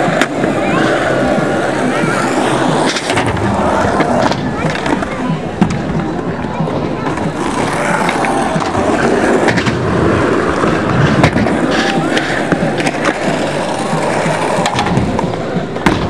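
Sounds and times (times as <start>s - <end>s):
skateboard wheels rolling: 0.0s - 16.0s
skateboard clacking on surface: 2.8s - 16.0s.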